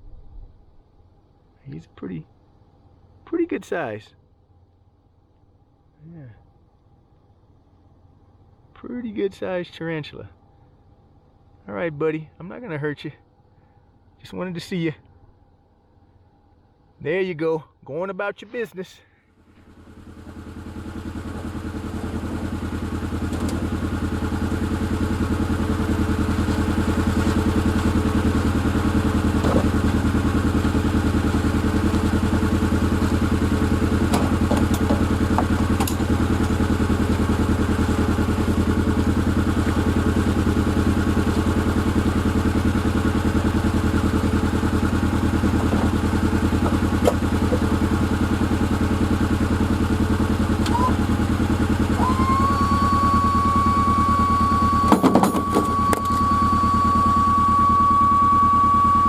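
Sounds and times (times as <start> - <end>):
vehicle engine running: 0.0 - 17.6, 18.2 - 59.0.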